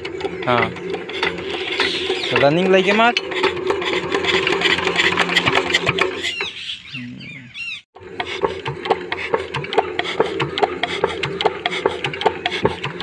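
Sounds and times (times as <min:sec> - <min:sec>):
diesel engine cranking drone: 0:00.0 - 0:13.0.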